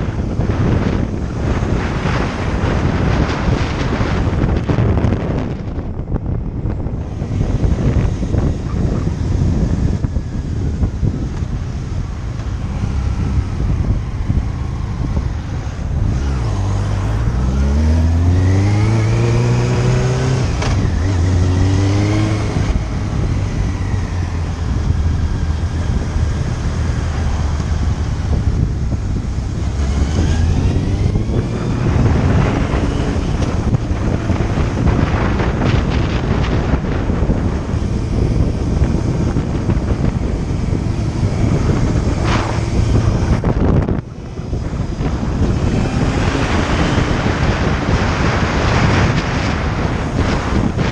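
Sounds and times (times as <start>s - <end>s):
motorcycle engine accelerating: 0.0s - 50.9s
wind noise on microphone: 0.0s - 50.9s.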